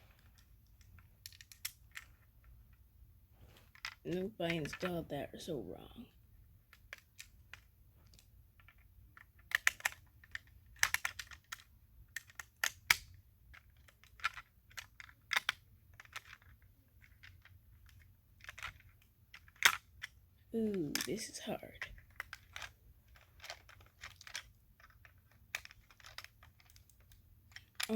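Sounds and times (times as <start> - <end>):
toy car parts clicking: 0.2 - 2.4, 3.7 - 5.0, 6.7 - 20.2, 20.8 - 27.9.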